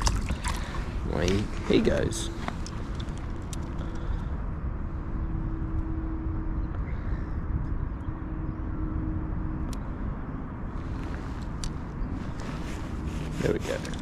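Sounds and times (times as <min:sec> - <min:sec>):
distant engine drone: 0:00.0 - 0:14.0
low rumble on microphone: 0:00.0 - 0:14.0.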